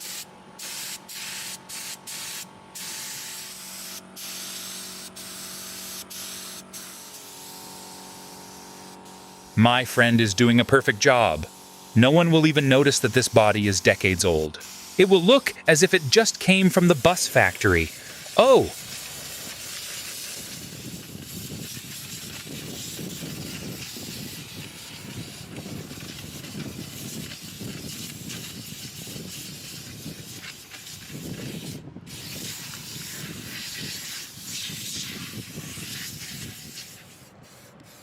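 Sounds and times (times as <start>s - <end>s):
paint spray gun hissing: 0.0s - 38.0s.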